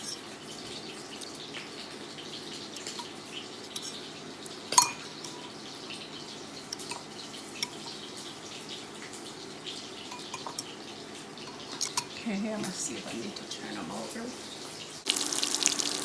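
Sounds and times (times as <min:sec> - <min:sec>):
shrimp sizzling in oil: 0:00.0 - 0:16.0.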